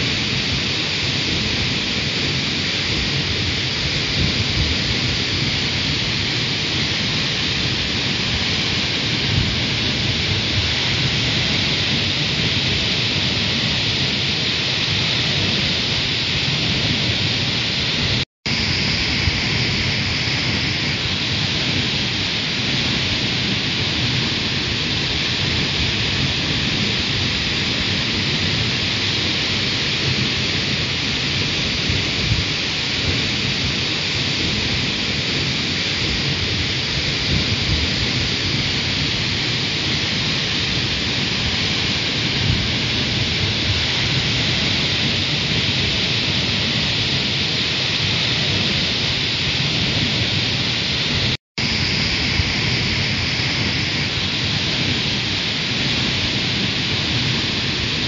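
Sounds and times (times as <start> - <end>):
waterfall rushing onto rocks: 0.0 - 58.0.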